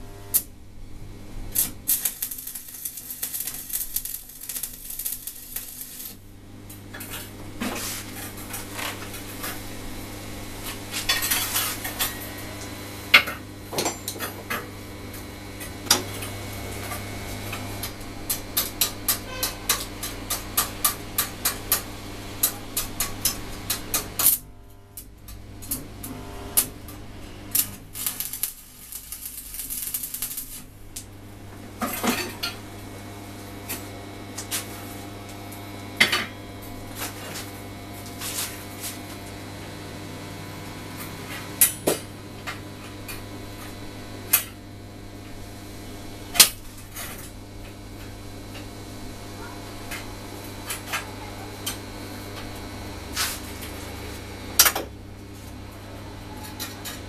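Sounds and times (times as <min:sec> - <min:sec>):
steady low hum: 0:00.0 - 0:57.0
welding arc crackling and hissing: 0:00.0 - 0:57.0.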